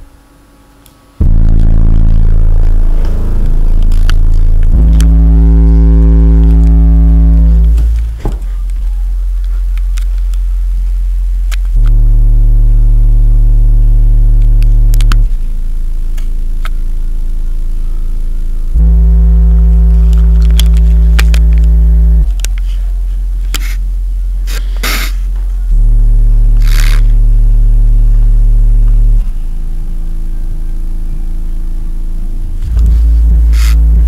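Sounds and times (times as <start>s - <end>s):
deep bass tones from subwoofers: 0.0s - 0.4s, 1.2s - 34.0s.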